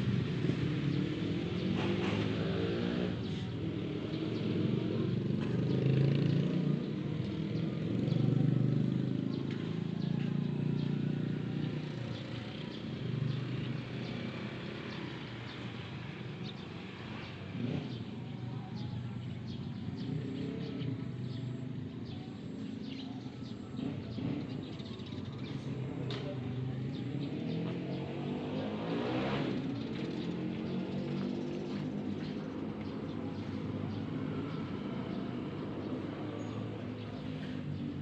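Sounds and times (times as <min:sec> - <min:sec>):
cars passing: 0:00.0 - 0:38.0
motorcycles passing: 0:00.0 - 0:38.0.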